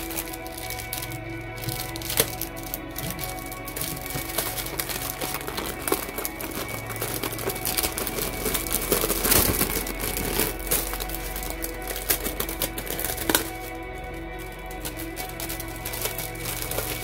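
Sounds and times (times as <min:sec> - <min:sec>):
background music: 0:00.0 - 0:17.0
plastic wrapping crinkling: 0:00.0 - 0:17.0.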